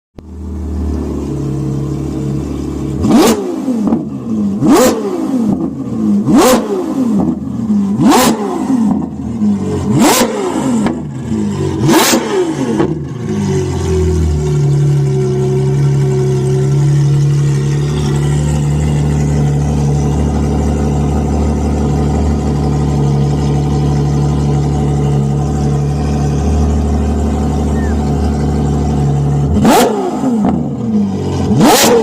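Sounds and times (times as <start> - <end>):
car engine idling and revving: 0.2 - 32.0.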